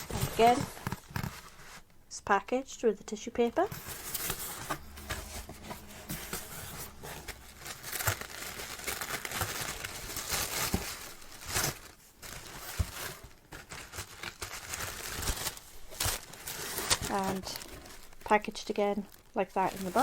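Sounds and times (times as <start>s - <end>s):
tissue paper rustling: 0.0s - 1.9s, 3.7s - 20.0s.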